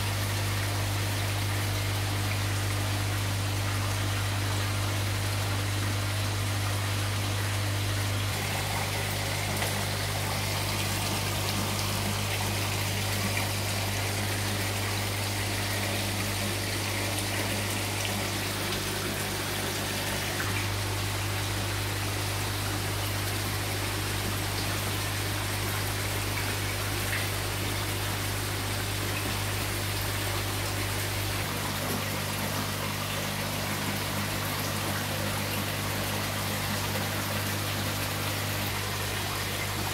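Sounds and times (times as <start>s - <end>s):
low pump hum: 0.0s - 39.9s.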